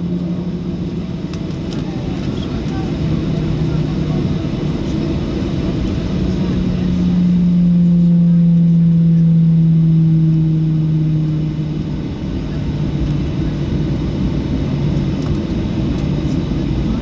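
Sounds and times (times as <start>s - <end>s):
jet engines humming in cabin: 0.0s - 17.0s.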